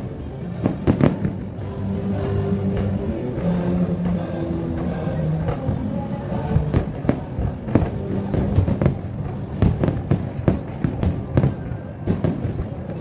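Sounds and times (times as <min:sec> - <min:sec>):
continuous low rumble: 0:00.0 - 0:13.0
fireworks bursting bangs: 0:00.5 - 0:01.8, 0:02.6 - 0:13.0.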